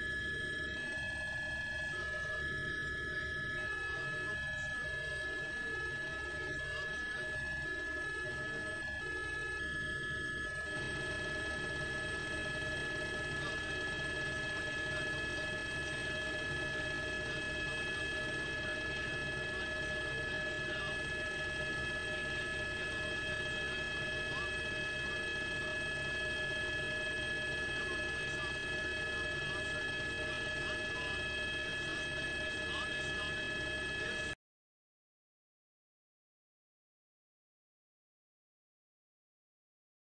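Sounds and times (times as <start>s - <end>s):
helicopter drone inside cabin: 0.0s - 34.4s
high whining tones: 0.0s - 34.4s.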